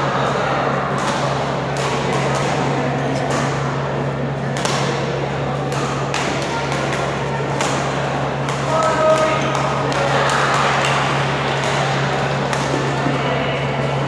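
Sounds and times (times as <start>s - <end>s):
constant low hum: 0.0s - 14.0s
murmur of voices: 0.0s - 14.0s
rackets smacking shuttlecocks: 0.9s - 3.8s, 4.4s - 13.2s.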